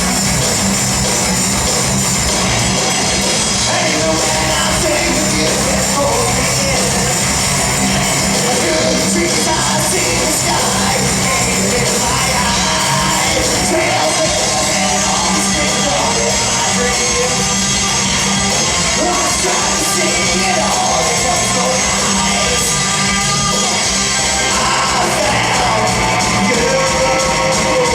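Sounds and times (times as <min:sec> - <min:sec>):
live band playing: 0:00.0 - 0:27.9
person singing: 0:03.0 - 0:17.8, 0:18.9 - 0:27.9.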